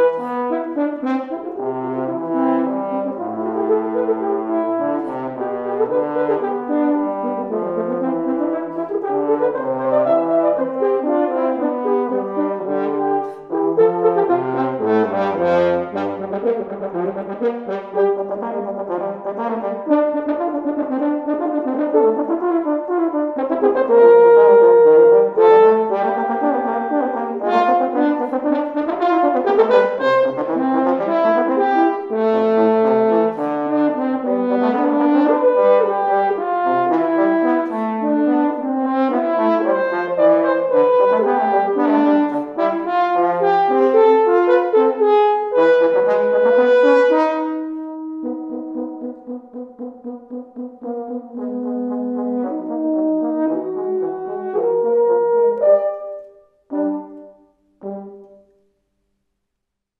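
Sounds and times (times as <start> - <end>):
french horns playing duet: 0.0 - 58.6.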